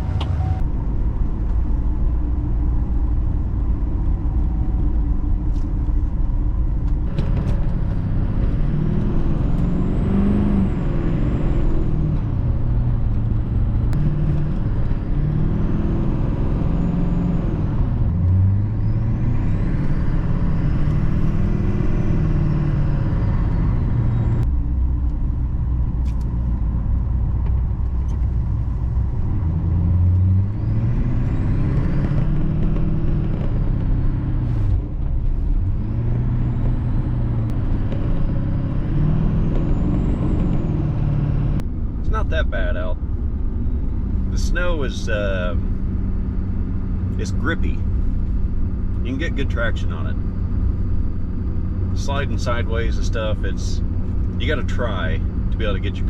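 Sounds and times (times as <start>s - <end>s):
vehicle engine driving on snow: 0.0s - 56.0s.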